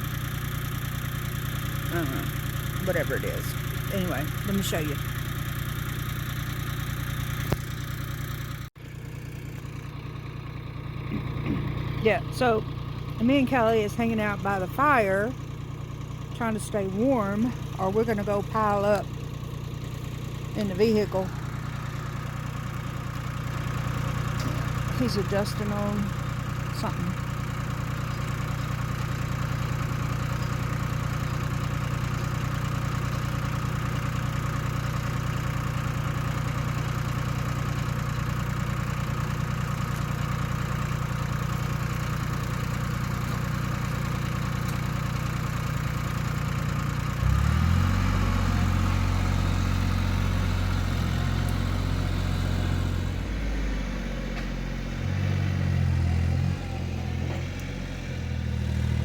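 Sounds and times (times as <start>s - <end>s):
tractor diesel engine idling and revving: 0.0s - 59.0s.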